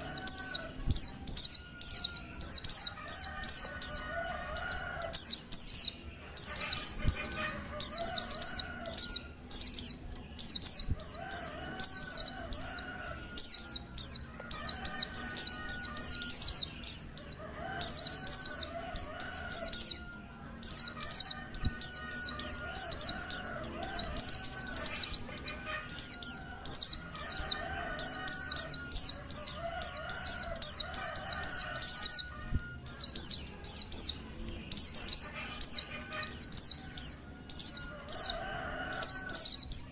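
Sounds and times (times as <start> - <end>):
bird high downward-sliding calls: 0.0 - 39.9
lower warbling bird call: 0.0 - 39.9.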